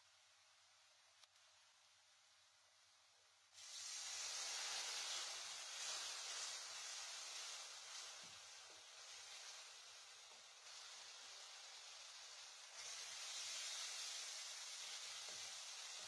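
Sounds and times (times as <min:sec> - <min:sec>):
onions sizzling in a pot: 0:02.0 - 0:16.0.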